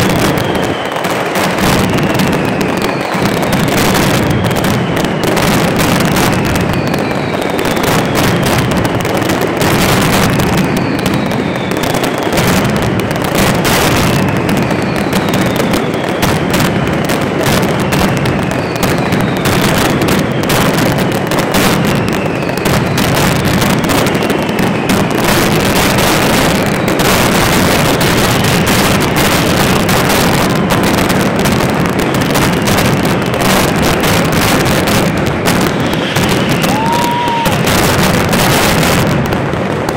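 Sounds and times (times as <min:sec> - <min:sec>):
falling firework whistles: 0:00.0 - 0:39.9
firework bangs and crackling: 0:00.0 - 0:39.9.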